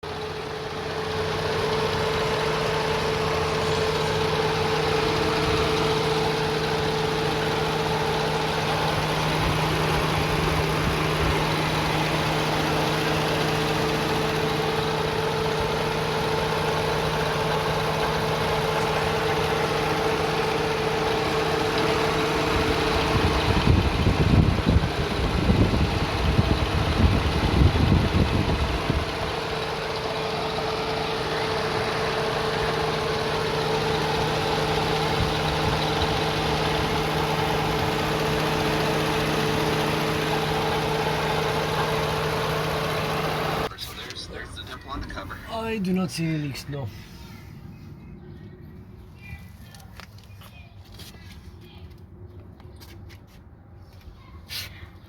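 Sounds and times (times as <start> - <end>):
steady engine whine: 0.0 - 52.2
car engine idling: 0.0 - 52.6.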